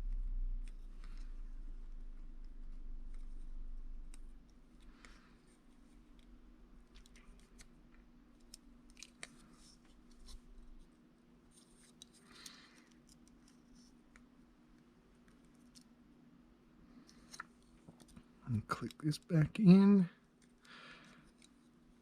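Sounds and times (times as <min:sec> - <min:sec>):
quiet steady hum: 0:00.0 - 0:22.0.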